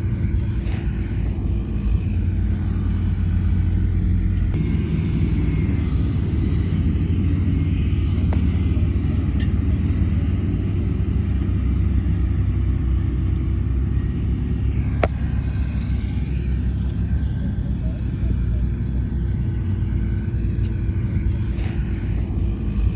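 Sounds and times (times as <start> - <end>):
deep diesel engine running: 0.0 - 22.9.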